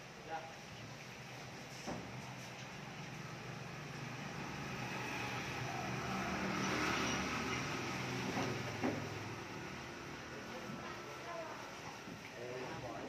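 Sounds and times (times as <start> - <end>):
vehicle engine humming: 1.2 - 12.1.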